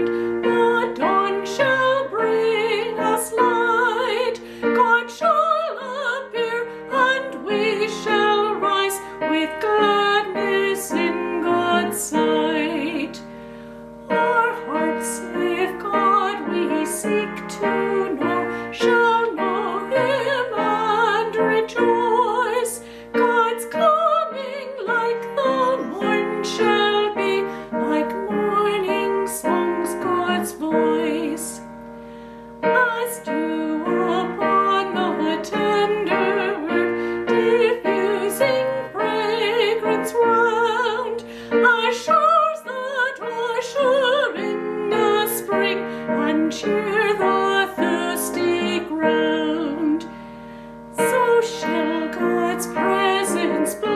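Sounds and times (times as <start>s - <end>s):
woman singing with vibrato: 0.0s - 13.3s, 14.0s - 31.7s, 32.6s - 50.2s, 50.9s - 53.9s
piano accompaniment: 0.0s - 53.9s.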